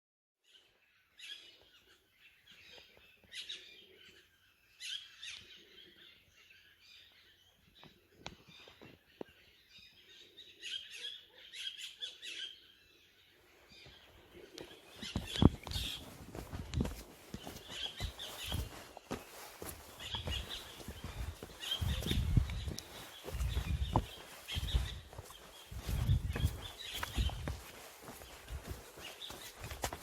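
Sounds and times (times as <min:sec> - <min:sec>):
birds chirping: 0:00.6 - 0:30.0.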